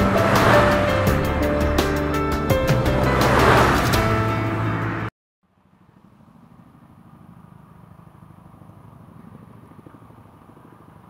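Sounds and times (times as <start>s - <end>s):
helicopter rotors beating: 0.0s - 5.0s, 5.8s - 11.0s.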